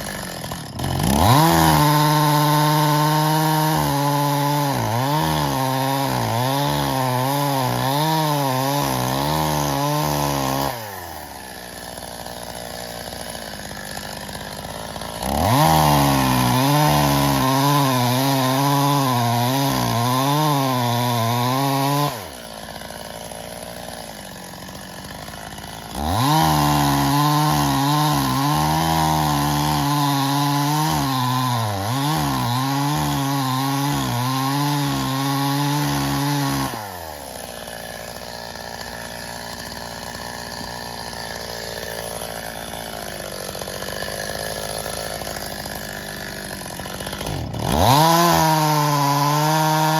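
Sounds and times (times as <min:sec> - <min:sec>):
chainsaw cutting logs: 0:00.0 - 0:49.9.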